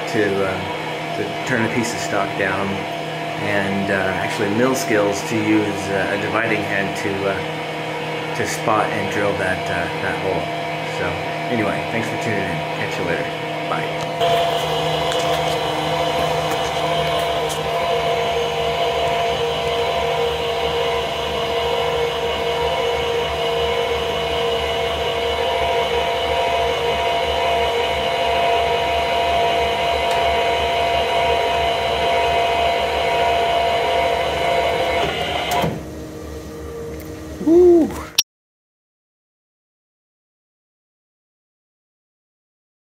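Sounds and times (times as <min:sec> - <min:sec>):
treadmill incline motor whining: 0:00.0 - 0:37.8.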